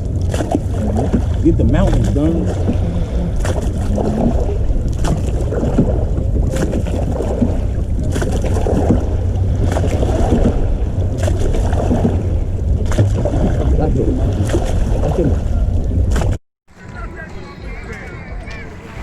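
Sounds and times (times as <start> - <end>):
motorboat engine rumbling: 0.0 - 19.0
wind buffeting microphone: 0.0 - 19.0.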